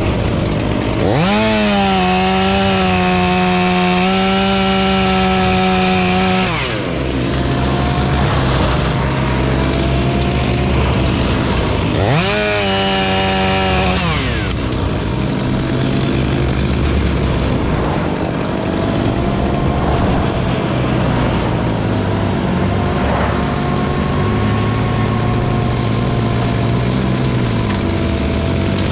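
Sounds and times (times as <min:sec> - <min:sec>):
chainsaw revving and idling: 0:00.0 - 0:28.9.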